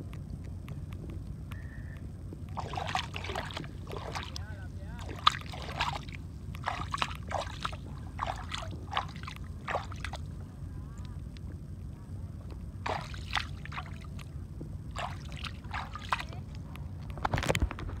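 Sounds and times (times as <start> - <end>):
voices: 0.8 - 17.1
water sloshing and splashing: 2.4 - 10.4, 11.5 - 18.0.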